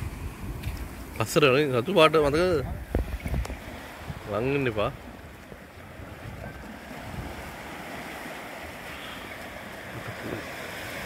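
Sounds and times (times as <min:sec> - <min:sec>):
waves washing onto beach: 0:00.0 - 0:11.0
wind buffeting microphone: 0:00.0 - 0:11.0.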